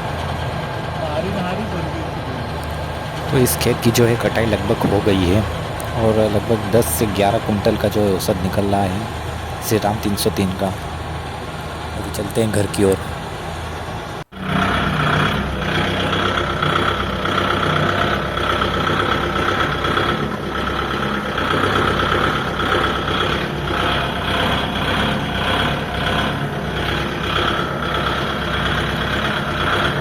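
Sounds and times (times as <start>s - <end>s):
high engine whine: 0.0s - 30.0s
tractor diesel engine running: 0.0s - 30.0s.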